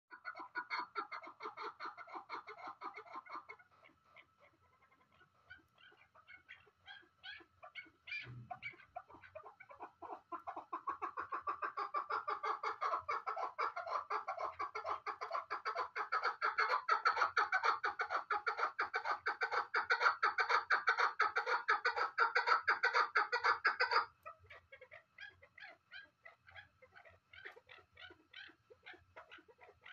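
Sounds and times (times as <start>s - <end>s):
partridge calling: 0.1s - 29.9s.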